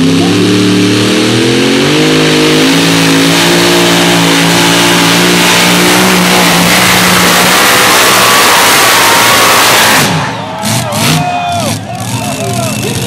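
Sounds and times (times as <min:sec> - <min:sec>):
tractor engine revving: 0:00.0 - 0:13.0.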